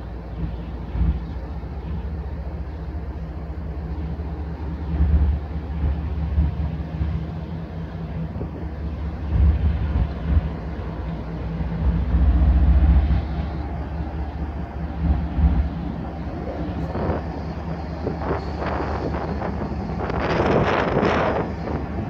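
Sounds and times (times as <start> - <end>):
diesel locomotives droning: 0.0 - 22.0.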